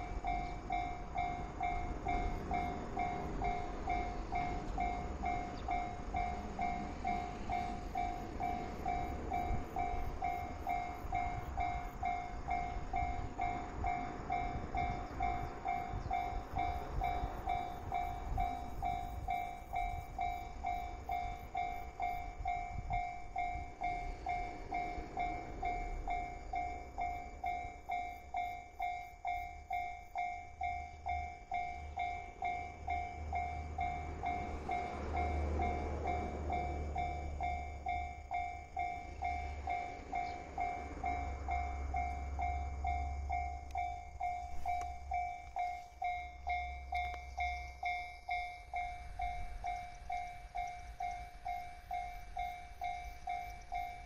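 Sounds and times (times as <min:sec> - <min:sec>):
level crossing warning bell: 0:00.0 - 0:54.0.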